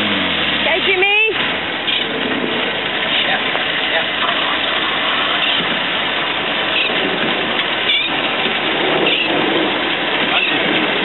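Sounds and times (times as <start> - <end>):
off-road vehicle engine roaring: 0.0 - 11.0.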